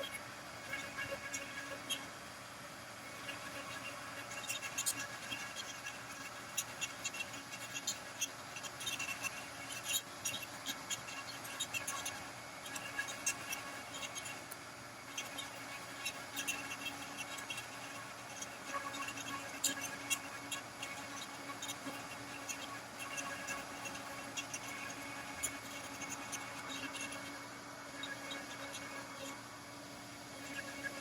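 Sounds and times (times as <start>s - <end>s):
light scratching with clicks: 0.0s - 2.1s, 3.1s - 29.4s
faint steady hum: 0.0s - 31.0s.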